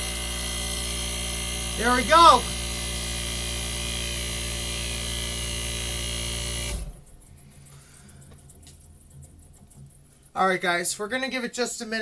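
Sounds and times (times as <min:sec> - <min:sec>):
compressor electric hum: 0:00.0 - 0:10.4.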